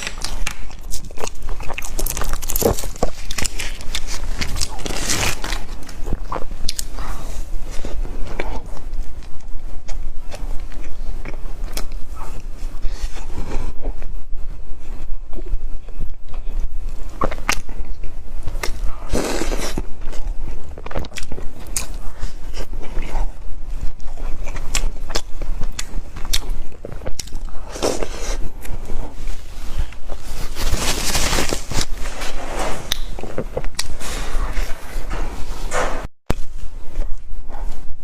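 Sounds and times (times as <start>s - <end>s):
biting and chewing: 0.0s - 14.1s, 15.3s - 37.9s.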